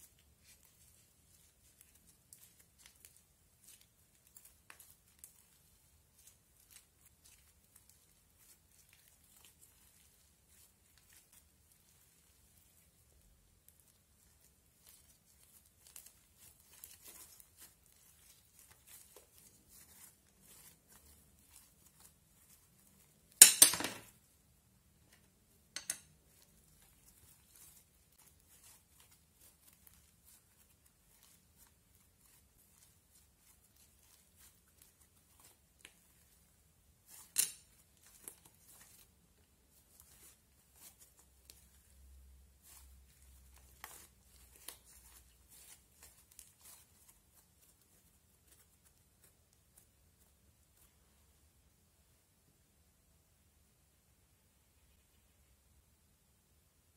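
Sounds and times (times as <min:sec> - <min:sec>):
slime crackling when kneaded: 0:00.0 - 0:23.4, 0:25.6 - 0:51.0.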